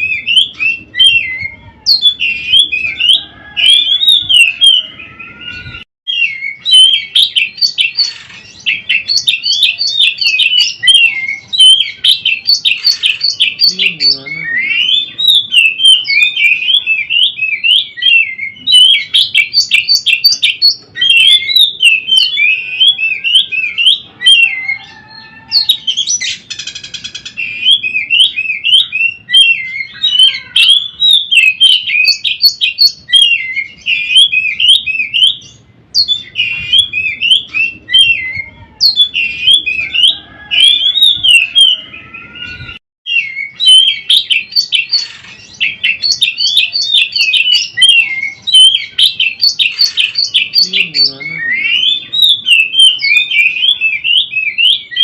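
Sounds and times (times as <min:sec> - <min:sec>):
bird warbling song: 0:00.0 - 0:55.0.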